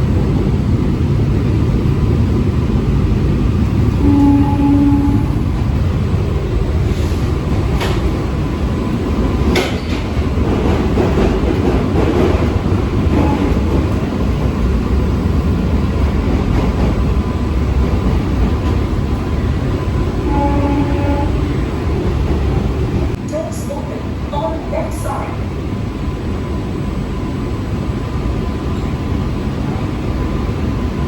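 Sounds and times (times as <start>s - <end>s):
train rumble and rail noise: 0.0s - 31.0s.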